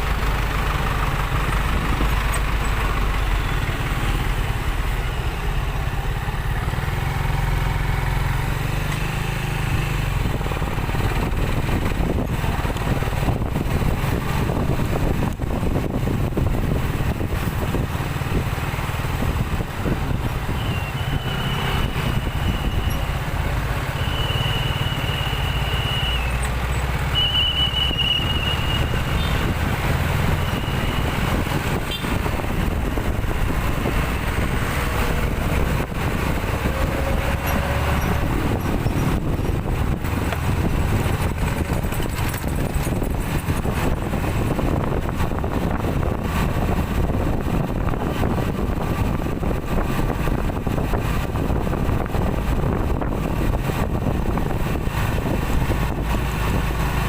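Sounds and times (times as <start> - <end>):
motorcycle and car engines: 0.0 - 57.0.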